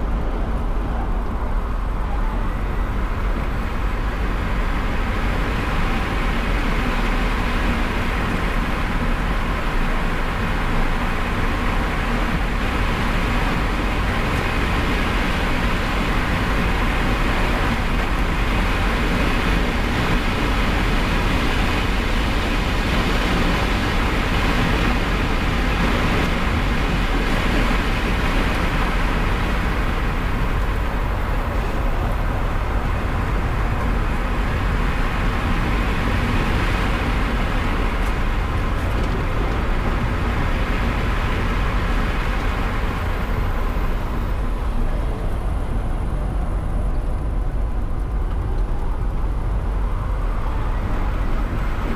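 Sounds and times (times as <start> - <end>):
tyre and wind noise: 0.0 - 51.9.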